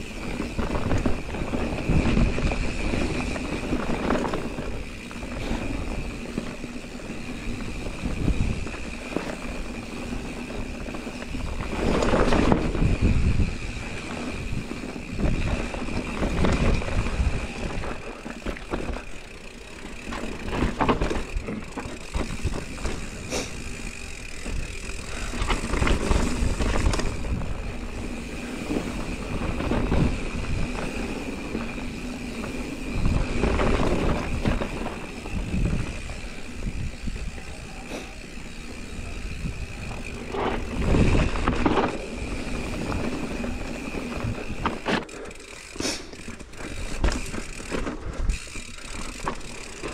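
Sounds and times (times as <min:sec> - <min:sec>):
bike rattling: 0:00.0 - 0:49.9
tyres rolling over dirt: 0:00.0 - 0:49.9.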